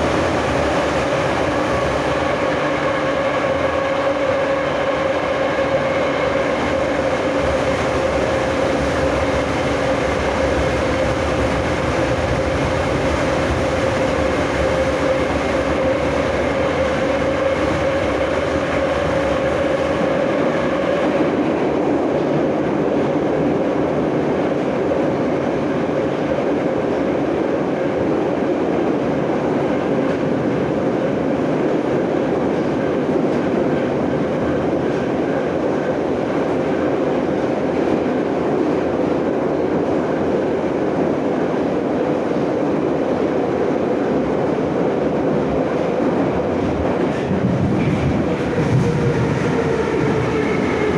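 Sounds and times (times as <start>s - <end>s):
wheels rumbling on rail: 0.0s - 50.9s.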